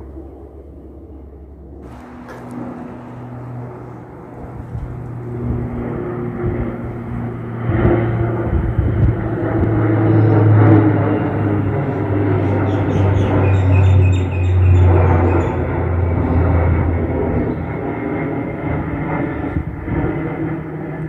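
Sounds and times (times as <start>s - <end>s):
propeller plane droning overhead: 0.0s - 21.0s.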